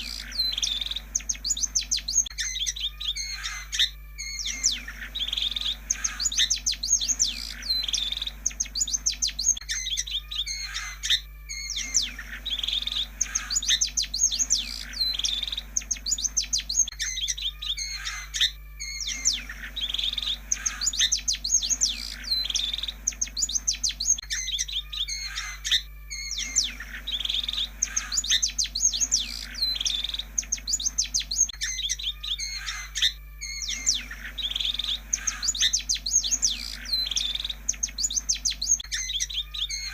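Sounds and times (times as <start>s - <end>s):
low electrical hum: 0.0s - 39.9s
shrike song chirps and warbles: 0.0s - 39.9s.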